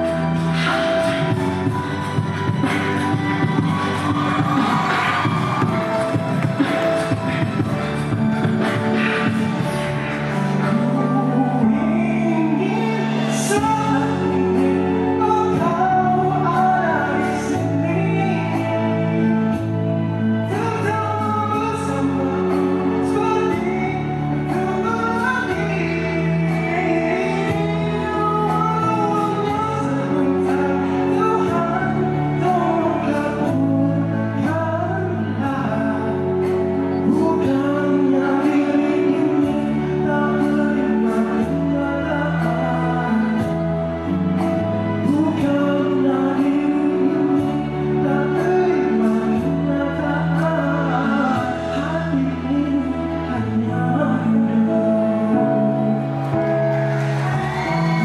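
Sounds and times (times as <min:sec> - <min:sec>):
backing music: 0:00.0 - 0:58.0
instrumental accompaniment: 0:00.0 - 0:58.0
man singing into microphone: 0:09.2 - 0:56.8.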